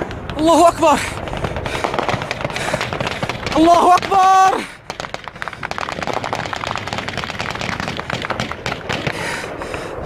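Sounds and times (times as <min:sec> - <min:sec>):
automatic gunfire: 0:01.1 - 0:09.4.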